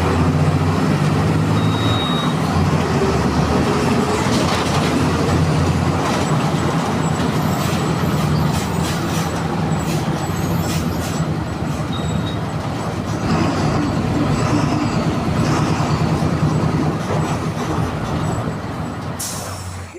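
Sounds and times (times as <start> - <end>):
bus diesel engine droning: 0.0 - 19.9.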